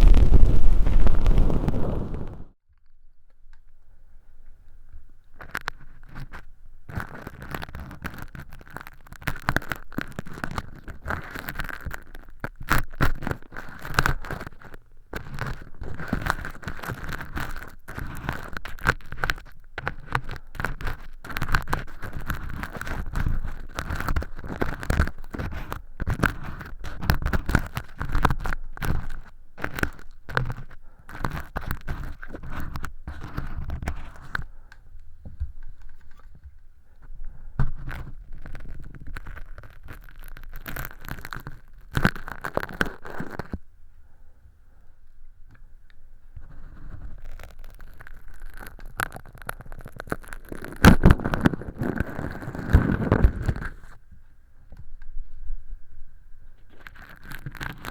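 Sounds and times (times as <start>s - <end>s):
earpick scraping crackling: 0.0s - 2.5s, 5.2s - 43.6s, 46.3s - 54.0s, 56.4s - 57.9s.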